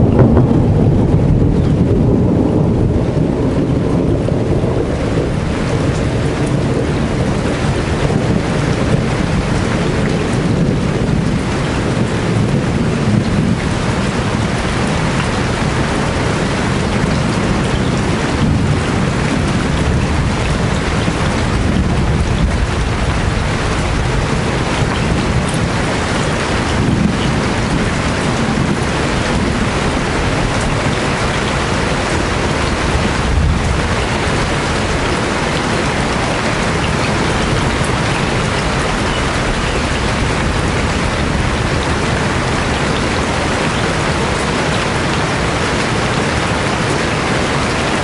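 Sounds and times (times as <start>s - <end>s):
deep continuous rumble: 0.0s - 48.0s
heavy rain falling: 0.0s - 48.0s.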